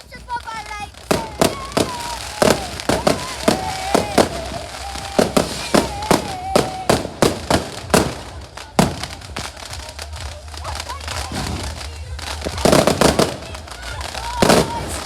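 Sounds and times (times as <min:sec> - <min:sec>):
fireworks sharp bangs: 0:00.0 - 0:15.0.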